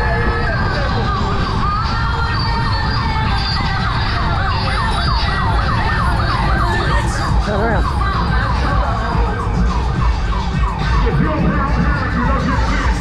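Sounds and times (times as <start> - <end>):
police siren yelping: 0.0 - 13.0
steady low rumble: 0.0 - 13.0.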